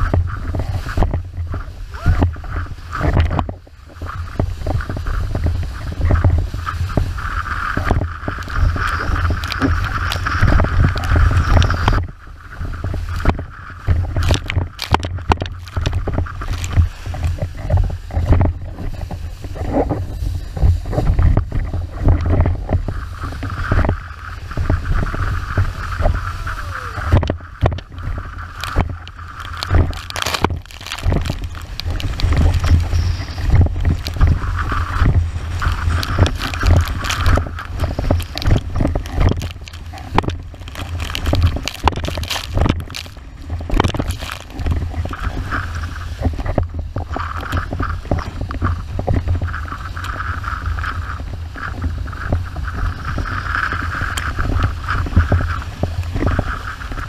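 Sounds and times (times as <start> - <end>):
water rushing and spraying: 0.0 - 57.0
wind rumble on microphone: 0.0 - 57.0.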